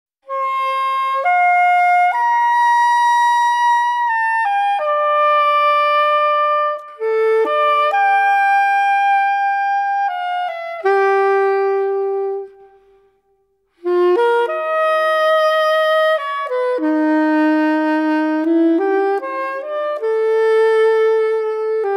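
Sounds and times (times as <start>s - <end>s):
slow solo instrumental melody: 0.3s - 21.9s.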